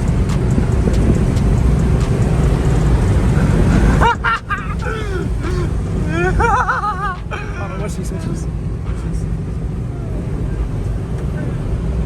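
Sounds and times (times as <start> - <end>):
vehicle engine and wind rumble: 0.0 - 12.0.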